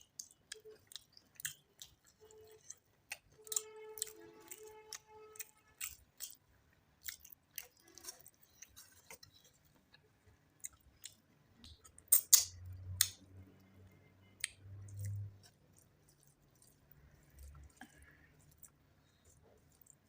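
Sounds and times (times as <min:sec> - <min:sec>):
close chewing and mouth sounds: 0:00.0 - 0:20.0.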